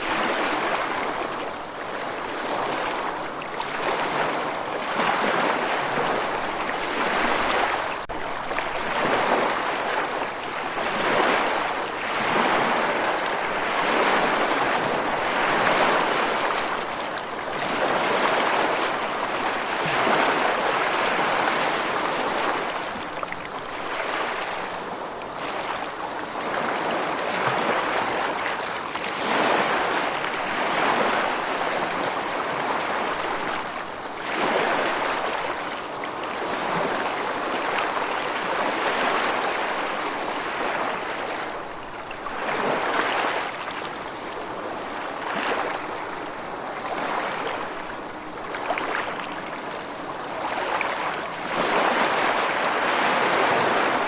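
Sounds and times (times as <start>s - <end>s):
water rushing: 0.0s - 25.2s, 25.8s - 54.0s.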